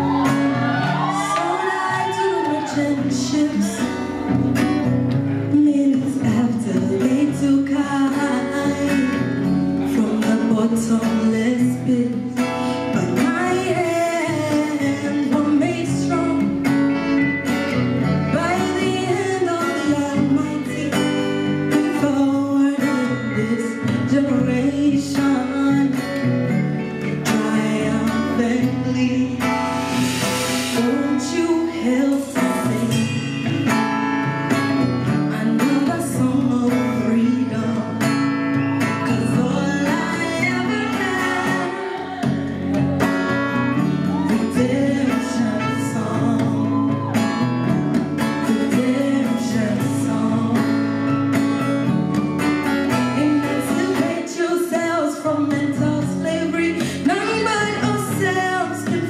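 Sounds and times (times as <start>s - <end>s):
woman singing: 0.0s - 30.1s, 30.7s - 59.0s
live band playing: 0.0s - 59.0s.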